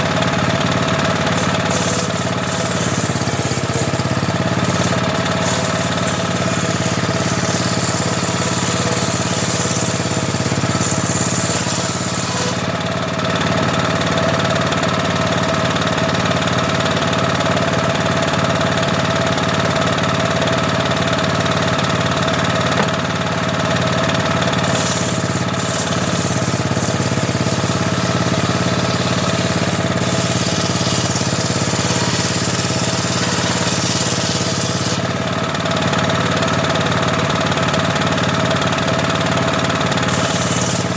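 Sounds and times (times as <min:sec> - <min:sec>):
saw blade cutting wood: 0:00.0 - 0:40.9
table saw running: 0:00.0 - 0:40.9.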